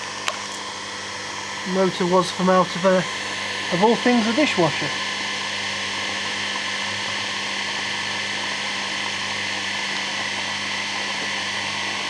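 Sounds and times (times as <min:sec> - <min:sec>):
pump motor hum and whine: 0:00.0 - 0:12.0.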